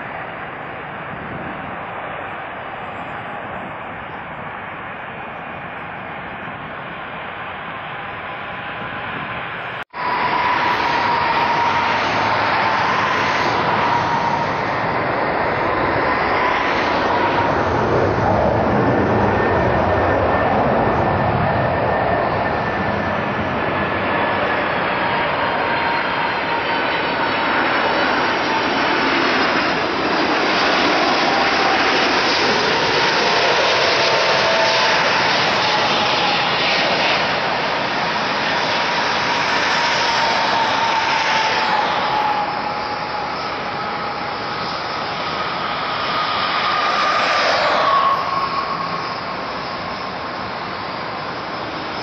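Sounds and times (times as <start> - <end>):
jet engines roaring with whine: 0.0 - 52.0.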